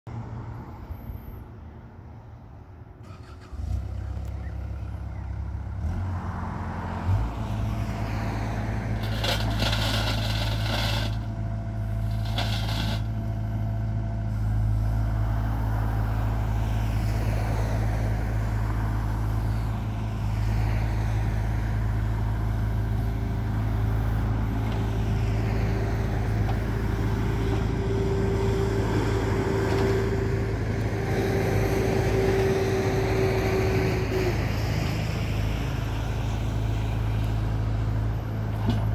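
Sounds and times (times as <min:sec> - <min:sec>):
excavator diesel engine running: 0:02.8 - 0:38.9.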